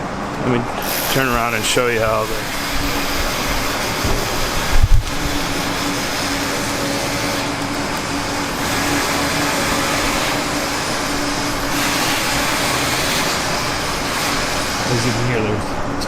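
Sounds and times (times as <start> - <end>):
construction machinery running: 0.0 - 16.0
held humming tone: 0.0 - 16.0.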